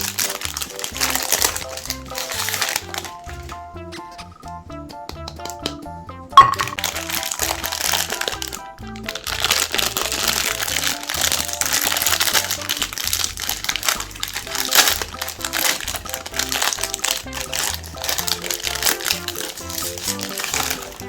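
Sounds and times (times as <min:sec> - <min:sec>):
meat grinder crushing ice cream bars: 0:00.0 - 0:04.3, 0:06.8 - 0:21.0
background music: 0:00.0 - 0:21.0.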